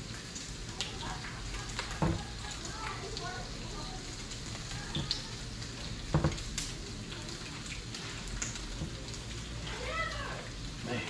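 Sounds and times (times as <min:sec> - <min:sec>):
bacon sizzling on griddle: 0:00.0 - 0:11.0.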